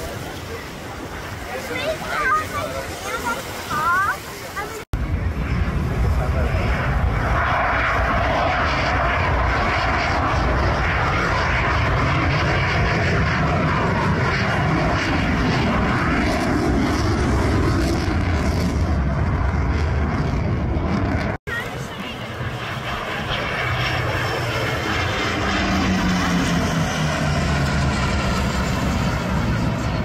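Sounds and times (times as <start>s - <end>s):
jet engines passing overhead: 0.0s - 30.0s.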